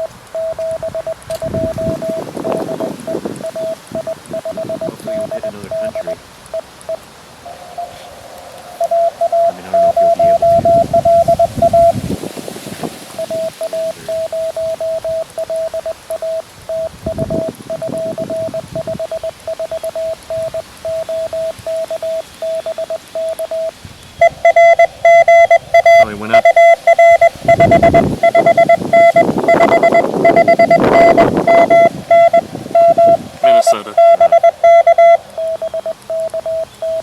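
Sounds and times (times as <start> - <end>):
morse code tone: 0.0 - 8.1, 8.7 - 12.2, 13.1 - 37.0.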